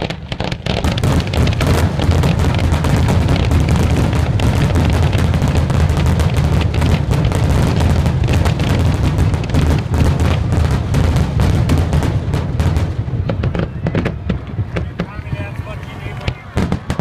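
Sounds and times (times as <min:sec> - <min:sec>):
fireworks booming and cracking: 0:00.0 - 0:17.0.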